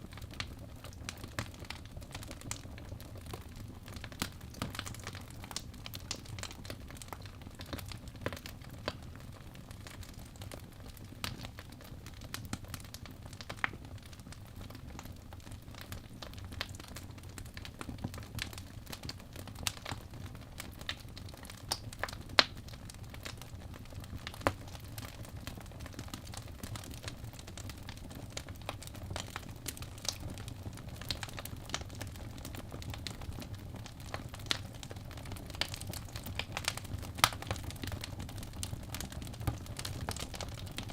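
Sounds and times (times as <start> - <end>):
low rumble of fire: 0.0 - 40.9
wood fire crackling and popping: 0.0 - 40.9.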